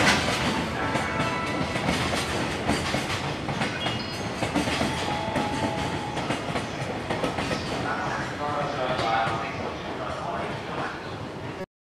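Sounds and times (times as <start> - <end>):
train wheels clattering over rail joints: 0.0 - 10.1.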